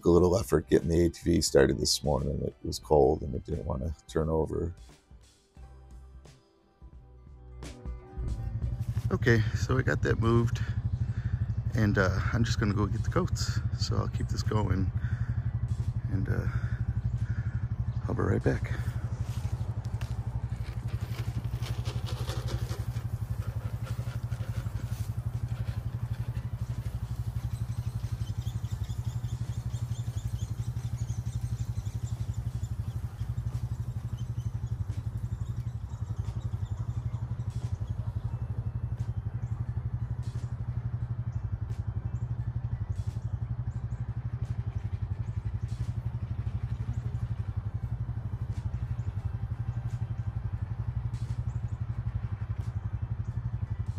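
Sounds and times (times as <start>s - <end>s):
atv engine idling: 8.2s - 53.9s.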